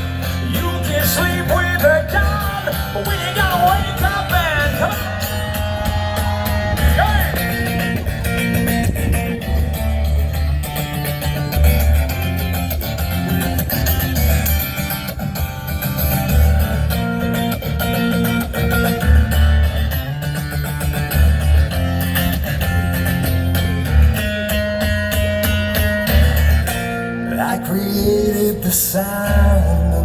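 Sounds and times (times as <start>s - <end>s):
pulsing low bass line: 0.0s - 27.2s
electric guitars playing: 0.0s - 30.0s.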